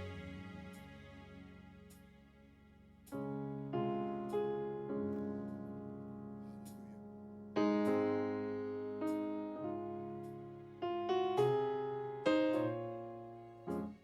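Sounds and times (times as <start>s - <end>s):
electric keyboard chords: 0.0s - 2.0s, 3.0s - 14.0s.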